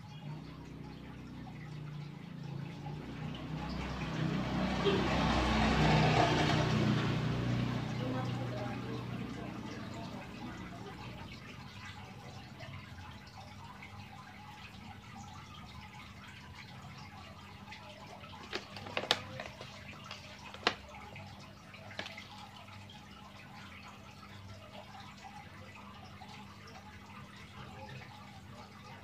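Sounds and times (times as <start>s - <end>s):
fish splashing in water: 0.0s - 29.0s.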